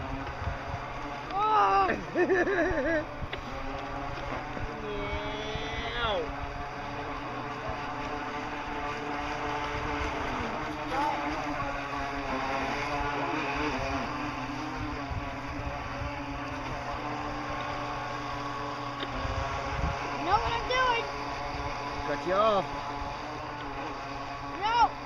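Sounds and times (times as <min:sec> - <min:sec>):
model boat motors whining: 0:00.0 - 0:25.0.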